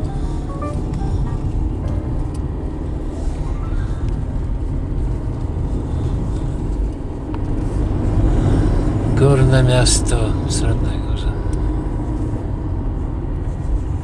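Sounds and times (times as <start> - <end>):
car engine rumble: 0.0 - 14.0
tyres on asphalt: 0.0 - 14.0.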